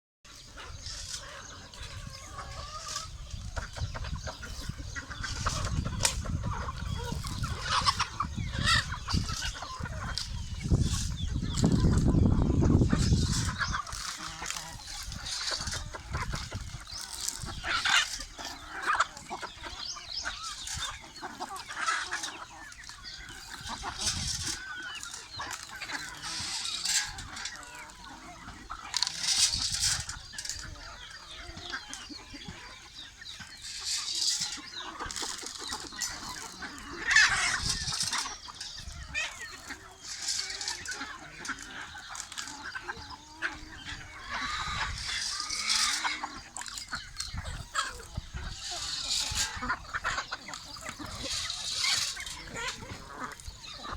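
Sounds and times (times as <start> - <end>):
chickens clucking and calling: 0.3 - 53.9.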